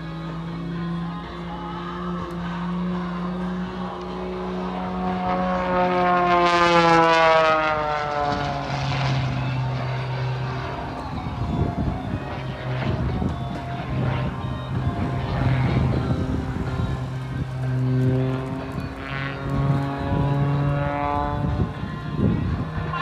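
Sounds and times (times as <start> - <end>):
propeller airplane engine passing by: 0.0 - 23.0.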